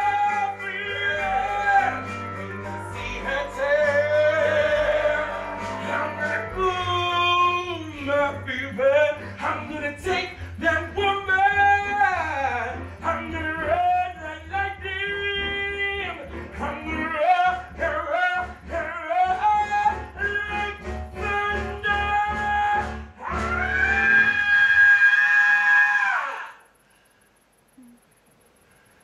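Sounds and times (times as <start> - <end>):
men singing: 0.0 - 24.2
backing music: 0.0 - 24.3.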